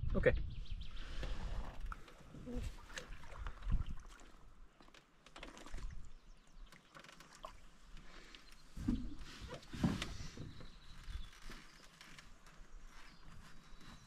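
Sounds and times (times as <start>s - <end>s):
light clicks and taps in canoe: 1.2s - 13.8s.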